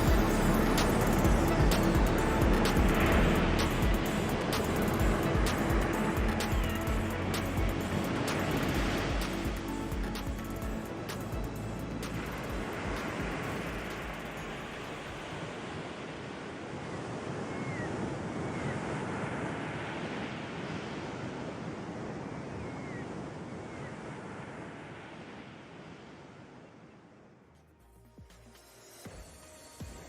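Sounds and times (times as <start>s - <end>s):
sea surf washing on shore: 0.0s - 26.6s.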